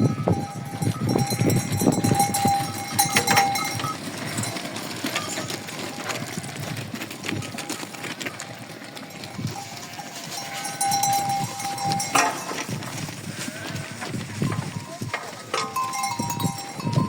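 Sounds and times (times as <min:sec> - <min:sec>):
goats and sheep bleating: 0:00.0 - 0:17.0.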